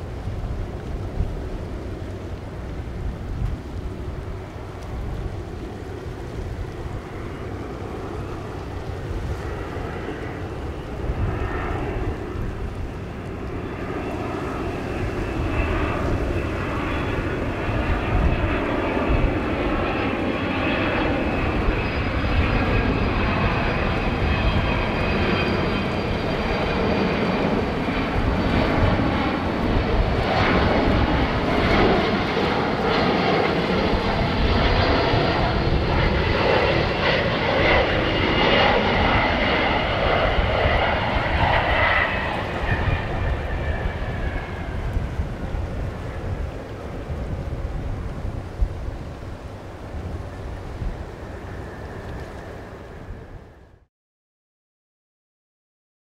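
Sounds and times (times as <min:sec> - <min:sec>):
jet engines on approach: 0:00.0 - 0:53.9.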